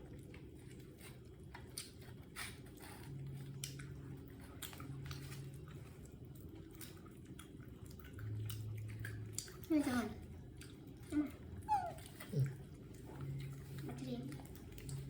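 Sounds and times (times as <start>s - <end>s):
monkeys crunching fried shrimp: 0.0s - 15.0s.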